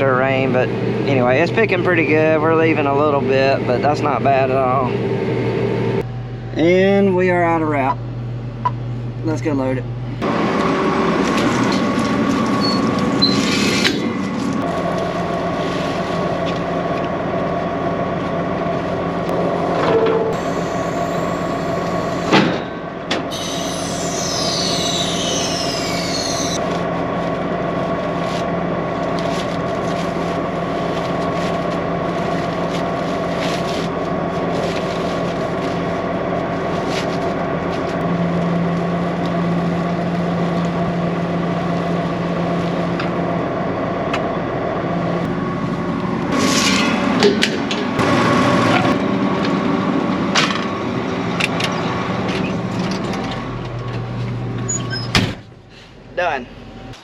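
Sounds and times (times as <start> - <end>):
harvester engine and fans droning: 0.0 - 57.0.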